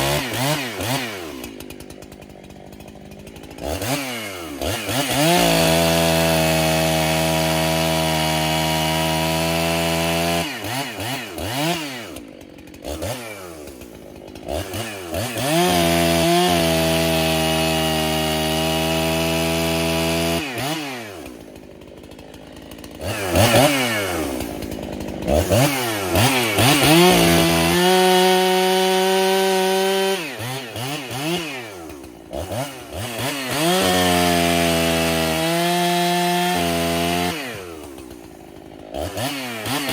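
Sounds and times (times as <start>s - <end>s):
chainsaw cutting firewood: 0.0s - 39.9s
chainsaw idling and revving: 0.0s - 39.9s.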